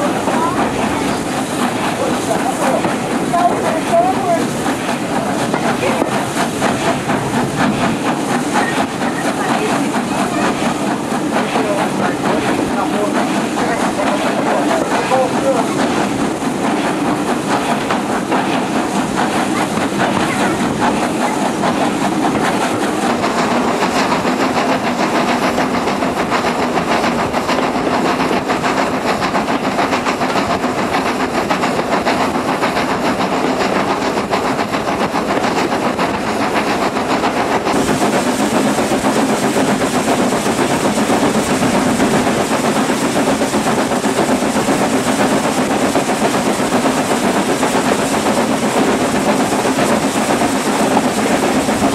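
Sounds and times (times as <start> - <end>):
steam hissing: 0.0 - 51.9
steam locomotive chuffing: 0.0 - 51.9
wheels clattering on rails: 0.0 - 51.9.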